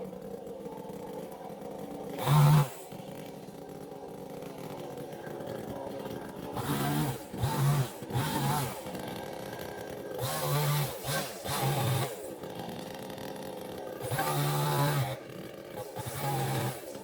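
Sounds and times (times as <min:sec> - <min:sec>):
chainsaw idling and revving: 0:00.0 - 0:17.0.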